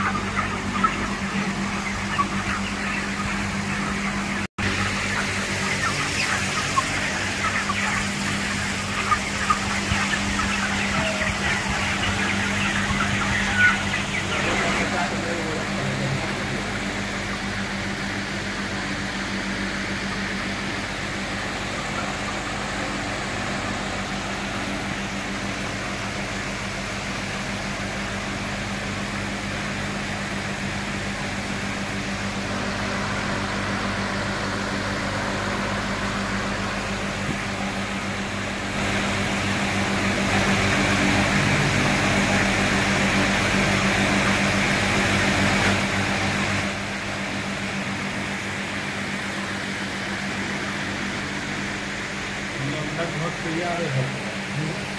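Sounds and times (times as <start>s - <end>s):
fan motor hum: 0.0s - 54.9s.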